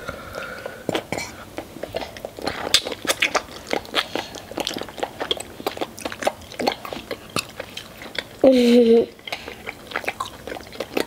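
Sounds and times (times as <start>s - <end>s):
crunchy chewing: 0.4s - 8.4s, 9.2s - 11.0s.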